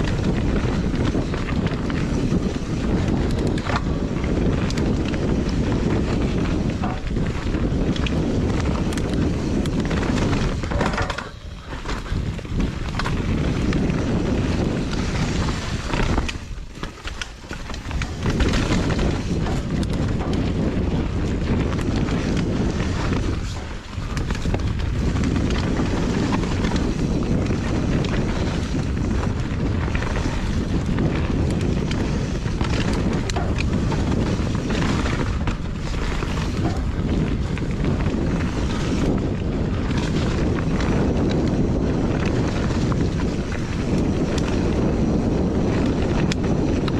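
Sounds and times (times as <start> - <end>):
mountain bike rumbling and rattling: 0.0 - 46.9
wind rushing over microphone: 0.0 - 46.9.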